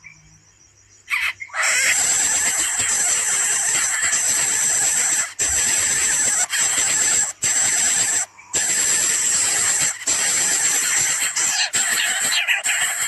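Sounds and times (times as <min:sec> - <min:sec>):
nestlings begging hissing buzz: 0:01.1 - 0:13.0.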